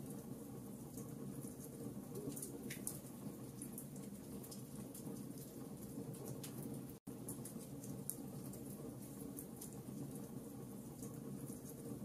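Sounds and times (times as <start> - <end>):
low steady hum: 0.0 - 12.0
wood fire crackling: 0.0 - 12.0.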